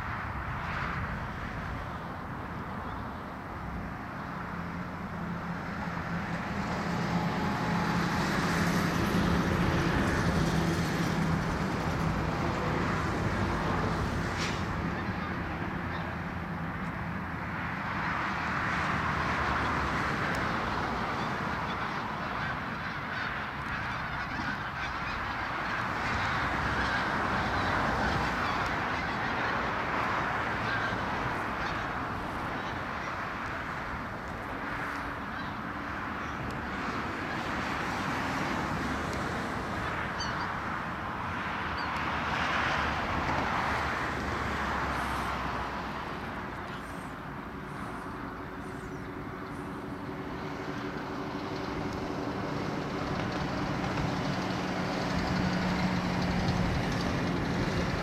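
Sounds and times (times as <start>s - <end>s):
geese honking: 5.3s - 17.0s, 19.1s - 57.8s.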